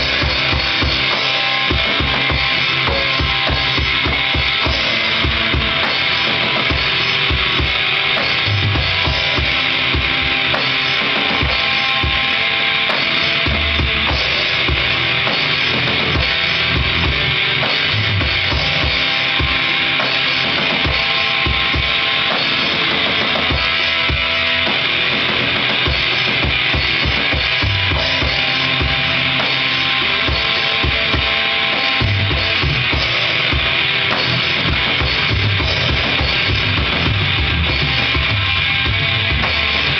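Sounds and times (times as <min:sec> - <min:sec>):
cymbal wash: 0:00.0 - 0:39.9
sustained guitar notes: 0:00.0 - 0:39.9.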